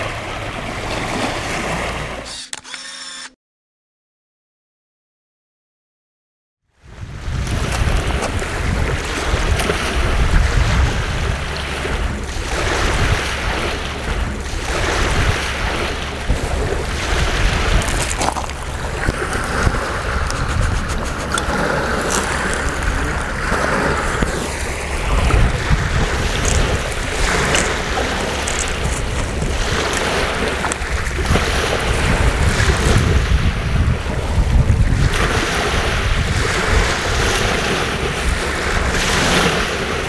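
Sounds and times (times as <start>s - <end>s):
small waves lapping on pebbles: 0.0s - 2.4s, 6.8s - 40.0s
wind on microphone: 6.8s - 40.0s.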